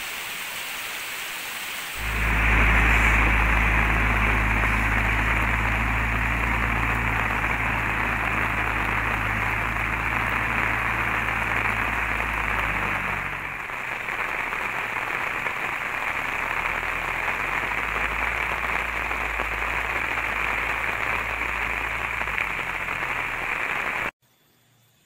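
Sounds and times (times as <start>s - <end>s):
heavy rain falling: 0.0s - 24.2s
low hum: 2.0s - 24.1s.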